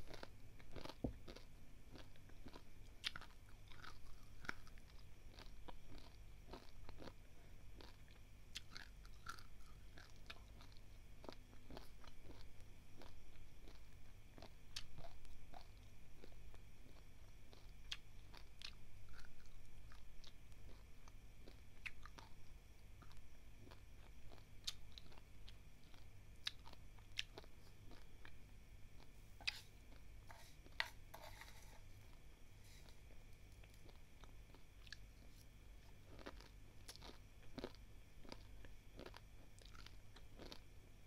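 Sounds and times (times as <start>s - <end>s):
chewing dry rice grains: 0.0s - 41.0s.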